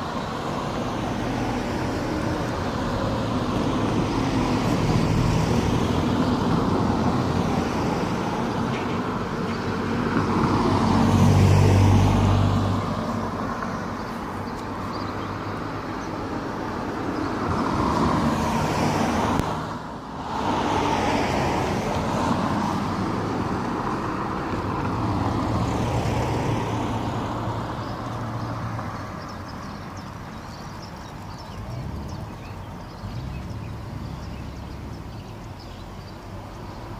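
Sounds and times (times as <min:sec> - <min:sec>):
cars driving past: 0:00.0 - 0:36.9.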